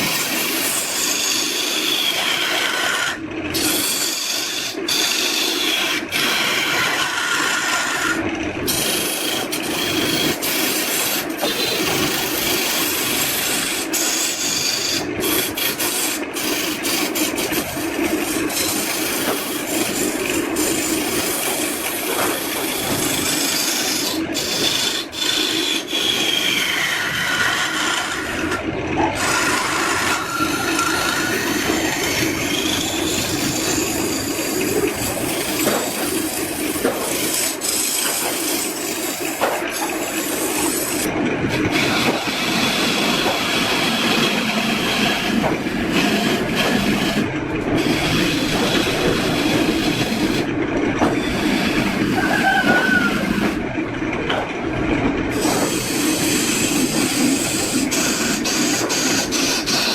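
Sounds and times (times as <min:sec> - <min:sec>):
hand tool scraping wood: 0:00.0 - 0:53.6, 0:55.3 - 0:59.9.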